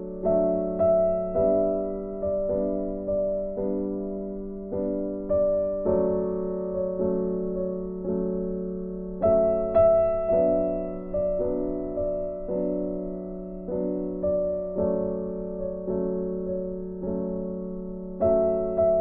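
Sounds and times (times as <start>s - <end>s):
gentle piano notes: 0.0s - 19.0s.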